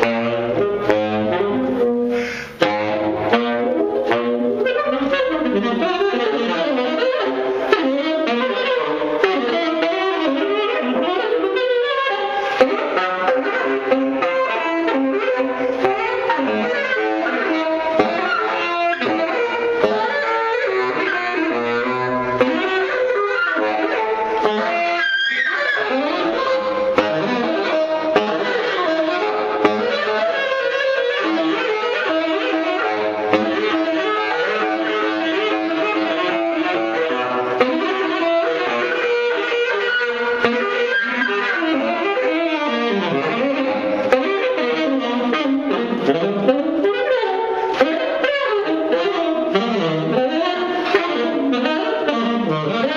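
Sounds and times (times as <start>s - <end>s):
solo saxophone improvisation: 0.0s - 52.9s.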